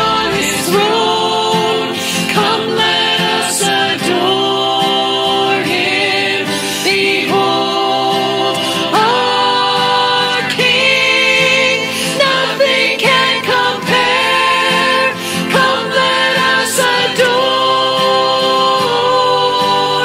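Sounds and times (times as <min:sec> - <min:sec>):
acoustic guitar: 0:00.0 - 0:20.0
woman and man singing: 0:00.0 - 0:20.0.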